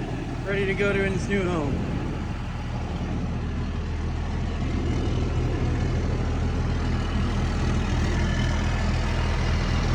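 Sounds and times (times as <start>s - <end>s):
diesel engine idling: 0.0s - 9.9s.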